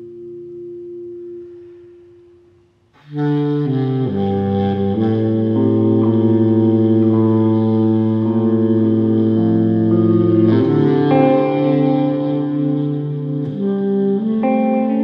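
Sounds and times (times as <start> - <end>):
electric guitar chord: 0.0 - 15.0
baritone saxophone free jazz line: 3.0 - 15.0.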